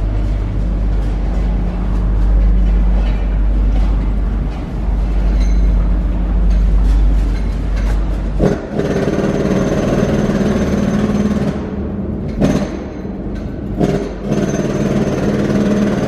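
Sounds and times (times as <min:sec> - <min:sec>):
train clattering rumble: 0:00.0 - 0:14.8
train deep hum overhead: 0:00.0 - 0:16.0.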